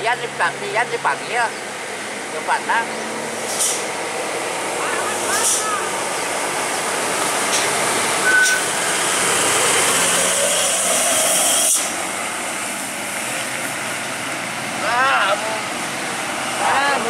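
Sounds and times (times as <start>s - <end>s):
truck engine under load: 0.2s - 17.0s.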